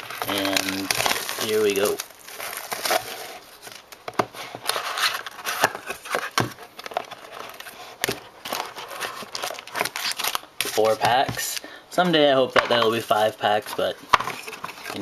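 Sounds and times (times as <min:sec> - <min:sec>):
cardboard and wrapper rustling: 0:00.0 - 0:11.6, 0:12.4 - 0:15.0.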